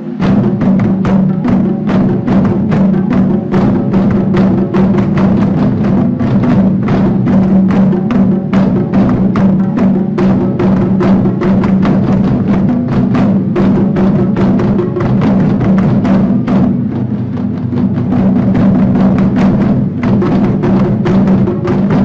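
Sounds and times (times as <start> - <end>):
taiko drum hits: 0.0 - 22.0.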